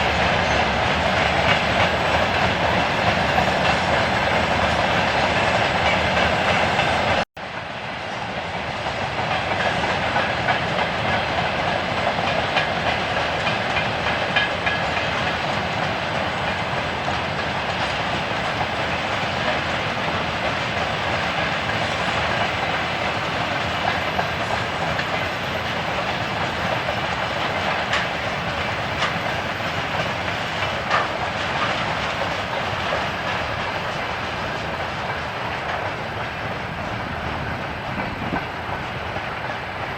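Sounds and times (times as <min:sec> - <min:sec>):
wheels clicking over rail joints: 0:00.0 - 0:07.2, 0:08.9 - 0:39.9
freight train rumbling past: 0:00.0 - 0:39.9.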